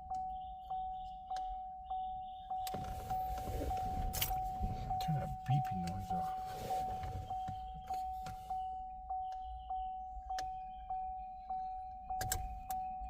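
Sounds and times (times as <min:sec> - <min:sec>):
car warning chime dinging: 0:00.0 - 0:13.0.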